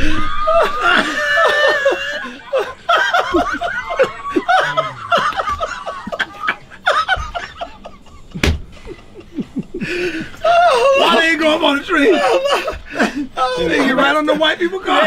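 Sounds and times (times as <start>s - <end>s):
men laughing hard: 0.0s - 15.0s.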